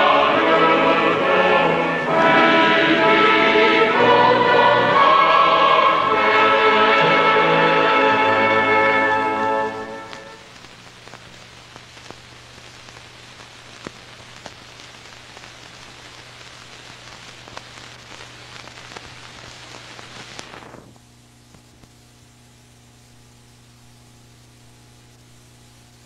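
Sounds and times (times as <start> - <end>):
low mains hum: 0.0 - 26.0
tape hiss with crackles: 0.0 - 26.0.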